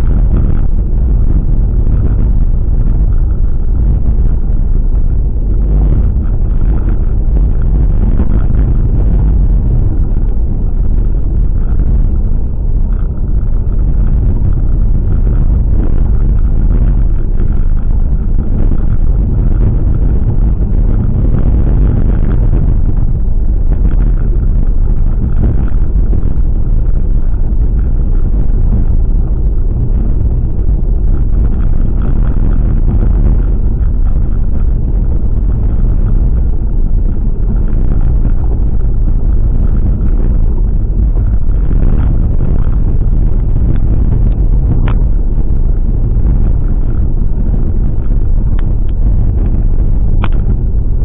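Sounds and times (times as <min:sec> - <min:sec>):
car rumbling on the move: 0:00.0 - 0:51.0.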